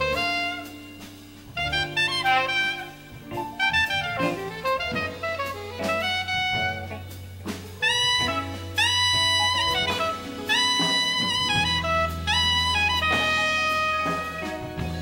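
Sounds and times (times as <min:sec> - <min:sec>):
drum kit: 0:00.0 - 0:15.0
electric bass: 0:00.0 - 0:15.0
soprano saxophone melody: 0:00.0 - 0:15.0.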